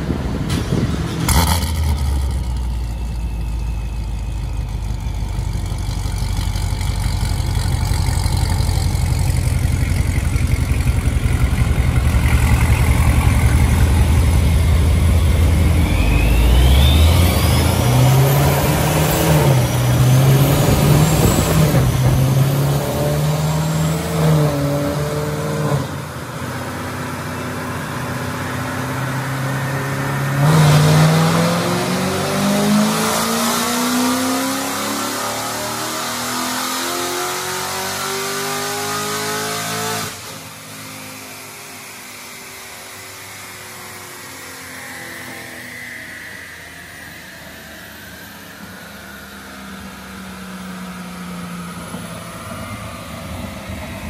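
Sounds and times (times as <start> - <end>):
car engine on dyno: 0.0 - 54.0
faint rising whine: 2.1 - 32.7, 40.4 - 54.0.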